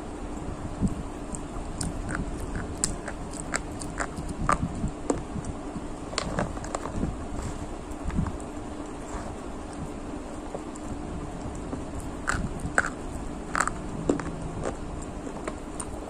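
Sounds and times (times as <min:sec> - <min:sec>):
low steady hum: 0:00.0 - 0:16.0
crunchy snack chewing: 0:00.8 - 0:16.0.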